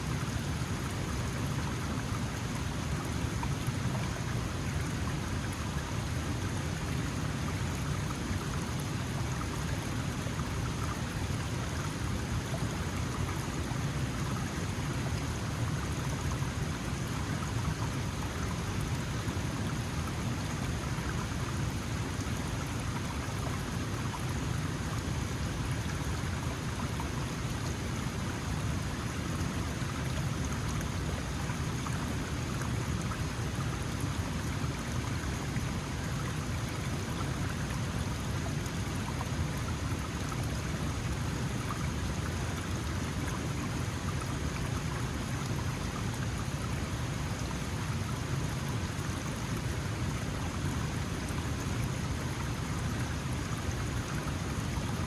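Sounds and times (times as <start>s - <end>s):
mountain stream flowing: 0.0s - 55.0s.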